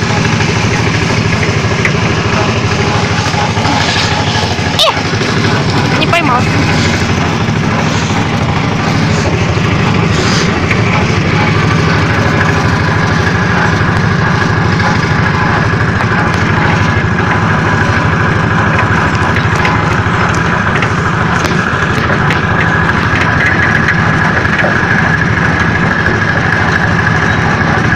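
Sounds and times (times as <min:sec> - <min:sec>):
engine running with fast pulsing: 0:00.0 - 0:27.9.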